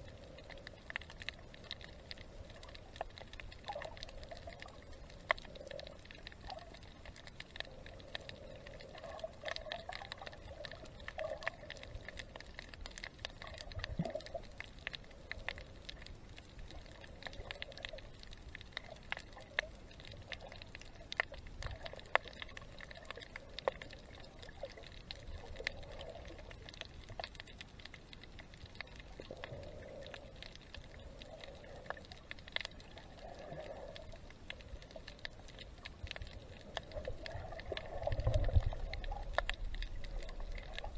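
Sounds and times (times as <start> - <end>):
soft water swells: 0.0 - 40.9
underwater clicks crackling: 0.0 - 40.9.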